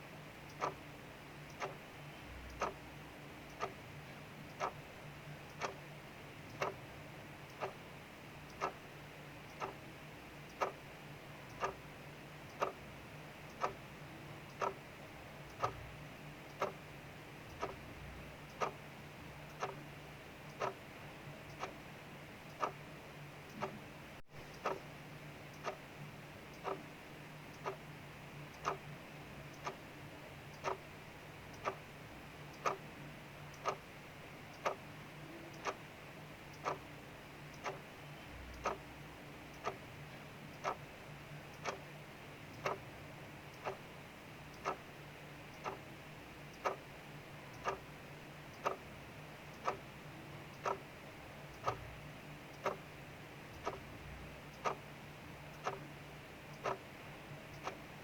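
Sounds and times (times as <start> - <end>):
faint hiss of rain: 0.0 - 58.0
mechanical clock ticking: 0.2 - 58.0.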